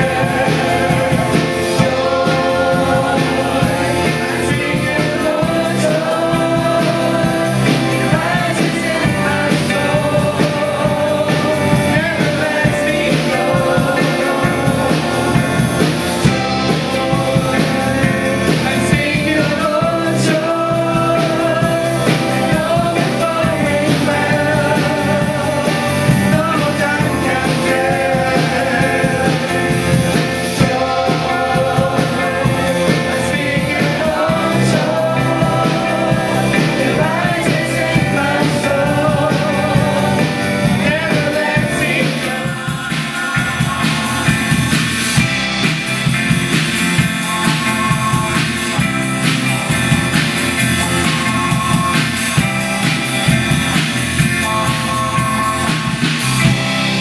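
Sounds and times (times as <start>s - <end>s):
group singing praise song: 0.0s - 48.9s
band playing: 0.0s - 57.0s.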